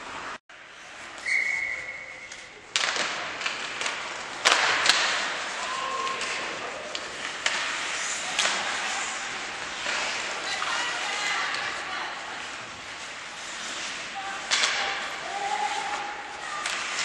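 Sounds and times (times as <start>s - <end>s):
hockey sticks and puck clacking: 0.0s - 17.0s
skates scraping ice: 0.0s - 17.0s.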